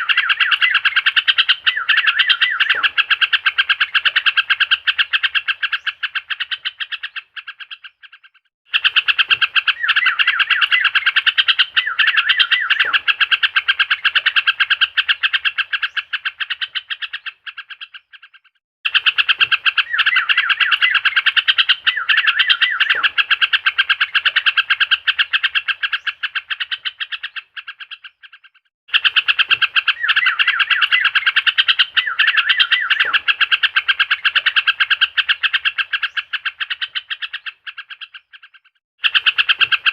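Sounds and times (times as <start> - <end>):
bird chattering and chirping: 0.0 - 39.9.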